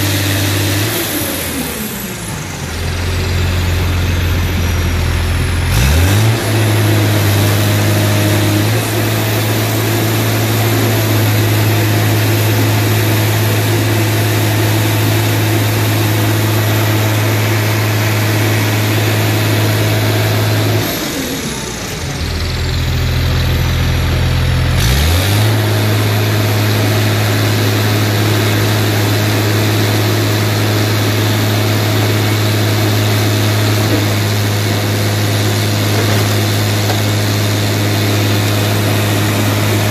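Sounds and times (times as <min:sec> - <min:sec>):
hydraulic power unit humming: 0:00.0 - 0:24.7, 0:25.4 - 0:39.9.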